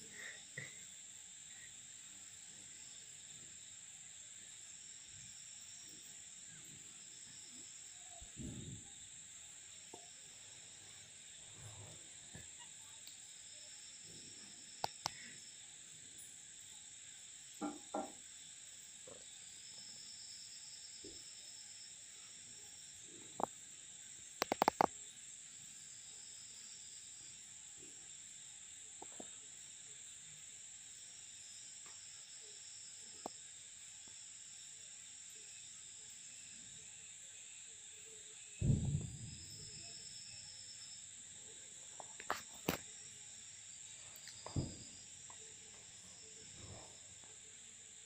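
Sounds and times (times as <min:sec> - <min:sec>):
night insects chirring: 0:00.0 - 0:48.0.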